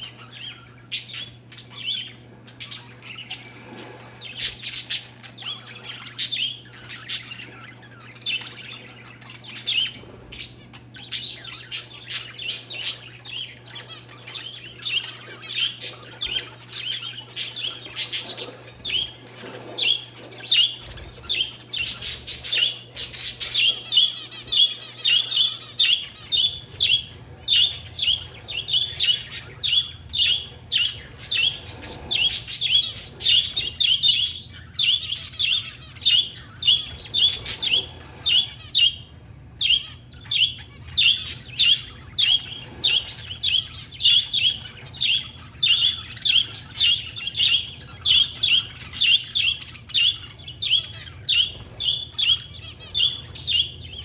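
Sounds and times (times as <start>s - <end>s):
birds chirping and squawking: 0.0s - 54.0s
faint low hum: 0.0s - 54.0s.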